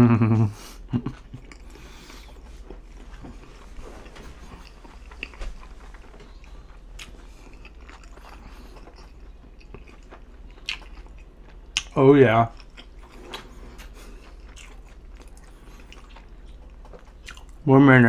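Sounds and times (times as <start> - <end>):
chewing pizza: 0.2 - 18.0.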